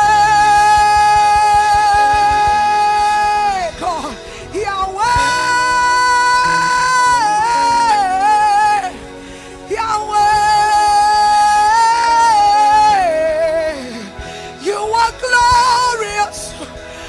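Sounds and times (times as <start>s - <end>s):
person singing wordless notes: 0.0s - 17.0s
soft steady accompaniment: 0.0s - 17.0s.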